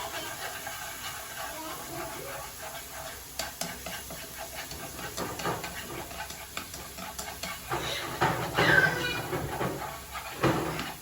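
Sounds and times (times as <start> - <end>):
garlic sizzling in oil: 0.0 - 11.0
utensil scraping pan: 0.0 - 11.0.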